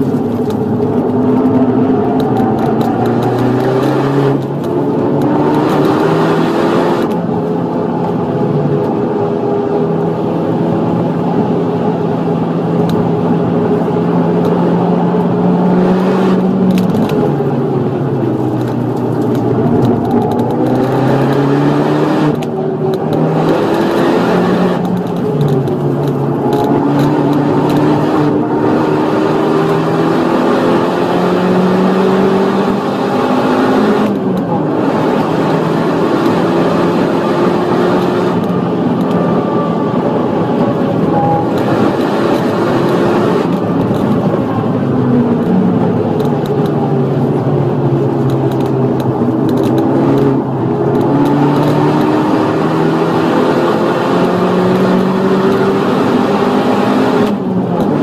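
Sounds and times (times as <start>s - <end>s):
car engine at full throttle: 0.0s - 58.0s.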